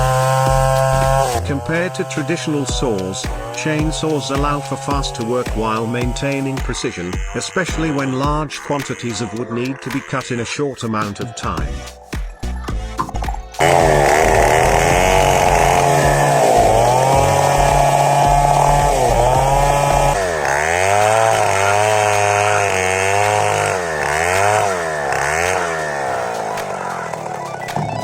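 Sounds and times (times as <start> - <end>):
chainsaw engine cutting: 0.0 - 28.0.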